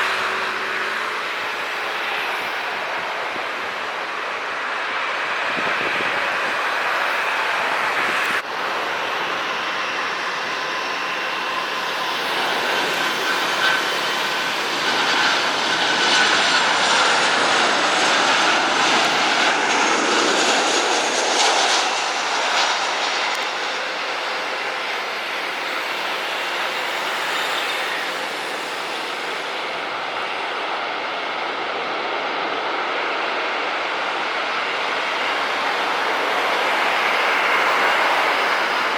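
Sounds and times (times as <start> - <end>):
jet engines rushing and whining: 0.0 - 38.9.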